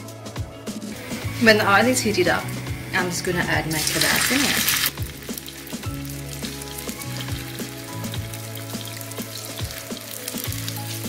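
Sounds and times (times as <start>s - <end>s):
kebabs sizzling in hot oil: 0.7s - 11.0s.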